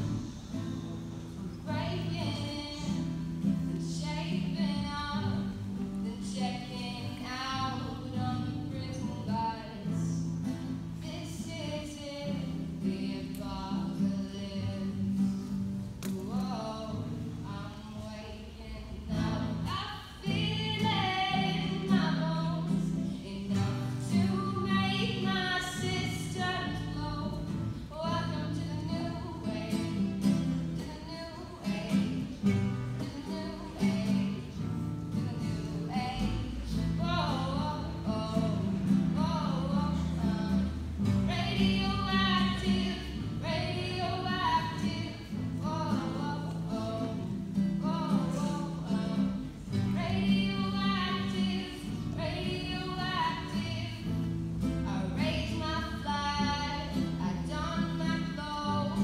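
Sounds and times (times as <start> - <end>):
strummed acoustic guitar: 0.0 - 59.0
girl singing: 1.6 - 59.0.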